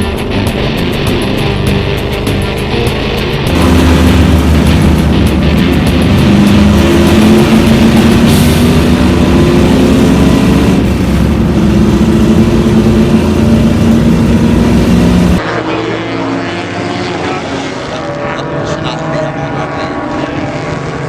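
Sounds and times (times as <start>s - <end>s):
background music: 0.0s - 17.9s
race car engines: 0.0s - 21.0s.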